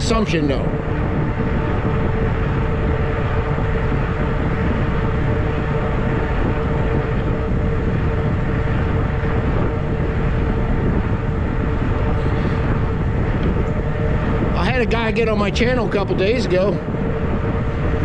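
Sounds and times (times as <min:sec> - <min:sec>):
mid-pitched whine: 0:00.0 - 0:18.0
wind and tyres rumbling: 0:00.0 - 0:18.0.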